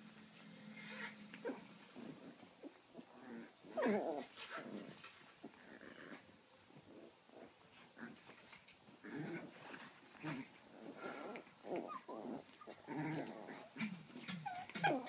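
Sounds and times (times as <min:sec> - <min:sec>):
puppy whining: 0:00.6 - 0:15.0.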